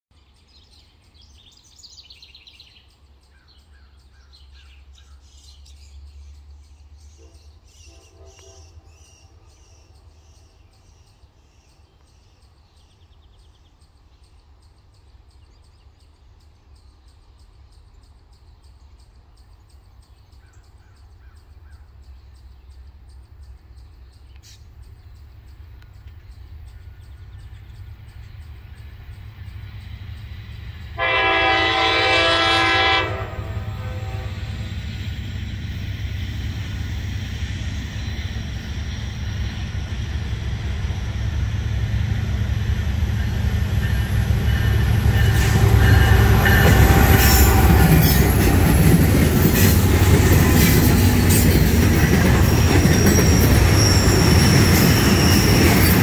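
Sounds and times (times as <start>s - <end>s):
birds calling: 0.7s - 56.0s.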